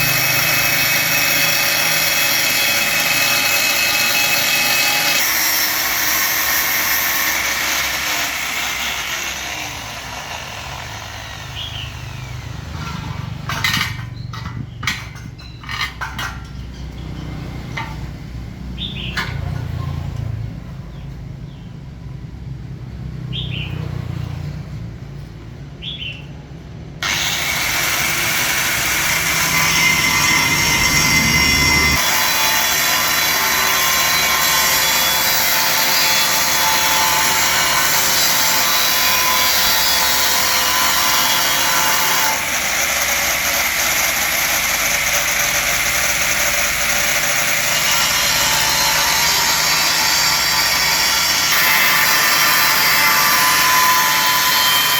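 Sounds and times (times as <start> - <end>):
power tool grinding: 0.0 - 20.3, 27.0 - 54.9.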